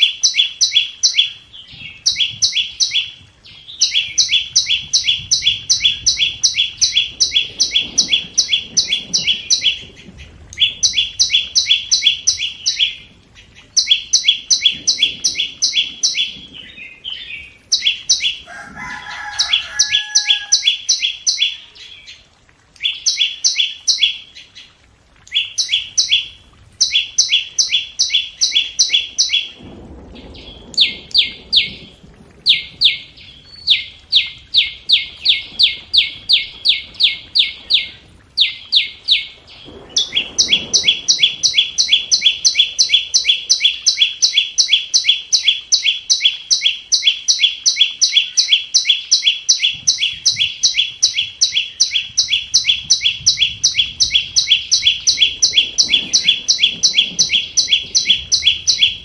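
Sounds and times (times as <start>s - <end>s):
bird ticking calls: 0.0s - 9.9s, 10.5s - 22.2s, 22.8s - 29.6s, 32.5s - 59.0s.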